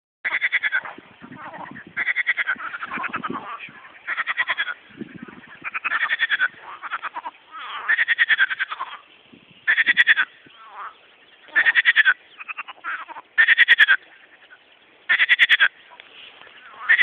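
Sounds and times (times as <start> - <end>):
frogs croaking in chorus: 0.2 - 17.0.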